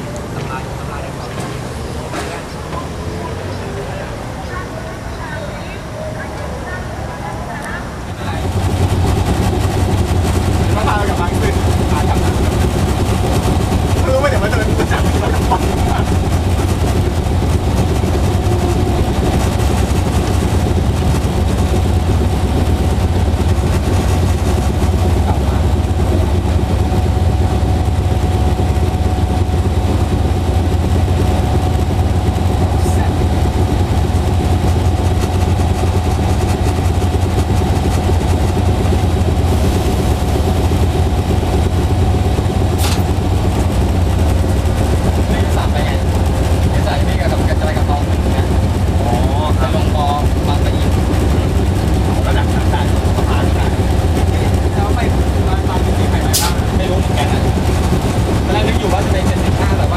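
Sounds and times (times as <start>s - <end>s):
diesel locomotive idling: 0.0s - 59.9s
steady whine: 0.0s - 59.9s.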